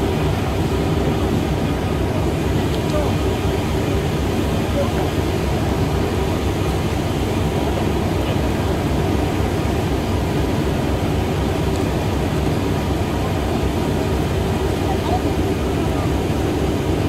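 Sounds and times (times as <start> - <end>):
diesel train engine idling: 0.0 - 17.0.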